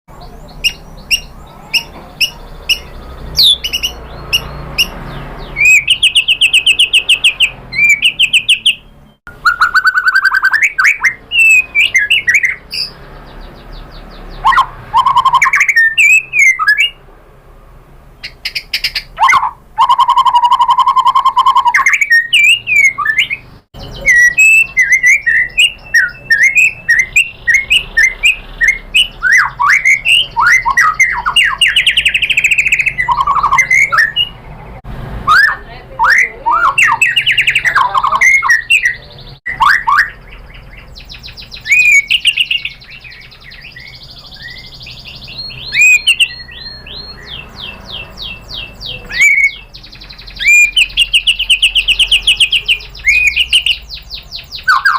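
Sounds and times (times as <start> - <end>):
songbird singing loudly: 0.1 - 17.0, 18.1 - 54.9.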